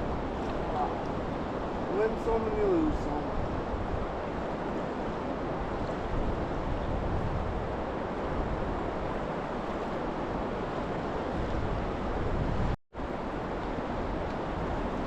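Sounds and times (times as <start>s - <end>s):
river water rushing: 0.0s - 15.0s
wind rumbling on microphone: 0.0s - 15.0s.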